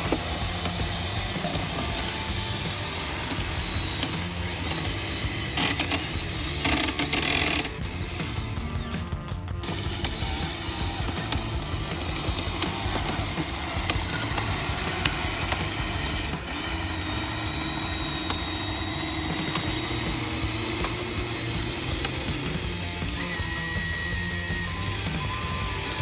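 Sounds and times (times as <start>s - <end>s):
gear clicks: 0.0s - 26.0s
motor hum: 0.0s - 26.0s
whining tone: 0.0s - 26.0s.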